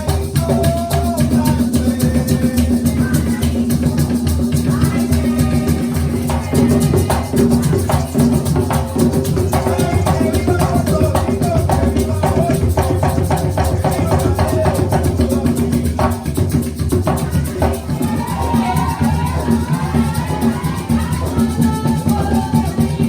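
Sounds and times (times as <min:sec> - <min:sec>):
music with drums and percussion: 0:00.0 - 0:23.0.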